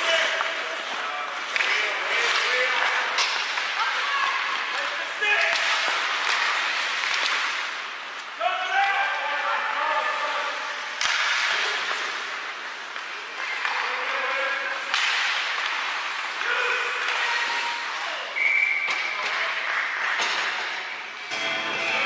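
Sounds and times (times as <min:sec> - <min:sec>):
hockey sticks and puck knocks: 0:00.0 - 0:09.2, 0:10.8 - 0:17.8, 0:18.6 - 0:21.0
skates scraping ice: 0:00.0 - 0:21.2.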